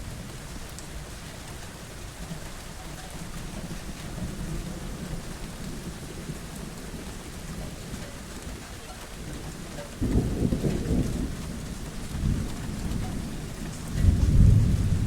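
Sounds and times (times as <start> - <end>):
rainfall hiss: 0.0 - 15.0.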